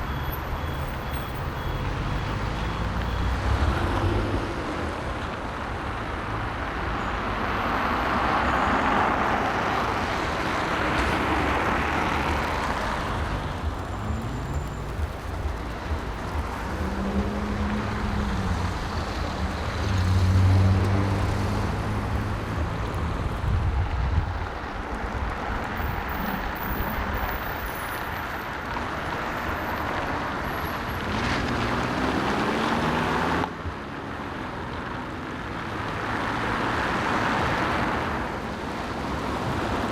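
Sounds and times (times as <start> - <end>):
cars and trucks driving past: 0.0 - 39.9
steady road noise: 0.0 - 39.9.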